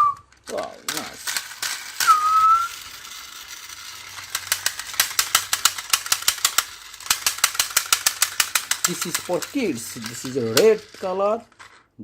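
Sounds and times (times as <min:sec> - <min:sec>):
toy mechanism plastic clicking: 0:00.0 - 0:11.9.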